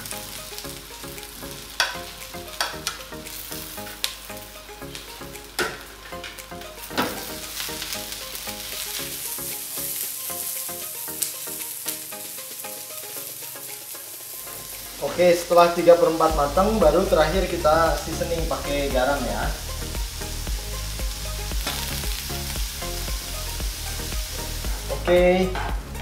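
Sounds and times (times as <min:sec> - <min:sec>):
mushrooms sizzling in frying pan: 0:00.0 - 0:26.0.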